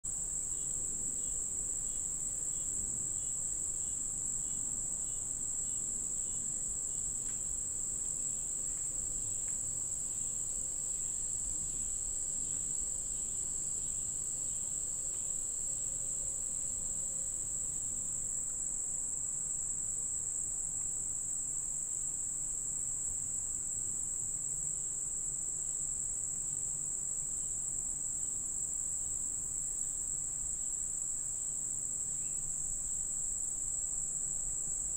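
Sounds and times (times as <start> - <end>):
crickets trilling: 0.1 - 34.9
faint pulsing insect call: 0.1 - 34.9.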